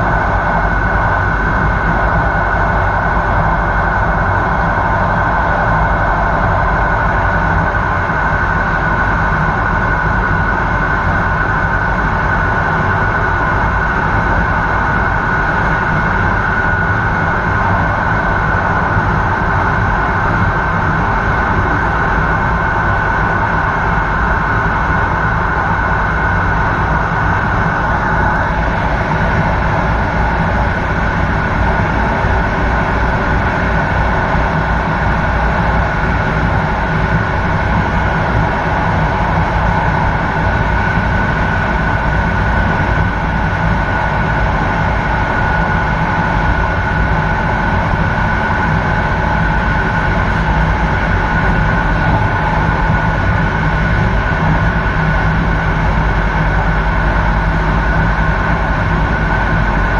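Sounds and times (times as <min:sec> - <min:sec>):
high whine: 0:00.0 - 0:59.9
rumble of train wheels on rails: 0:00.0 - 0:59.9.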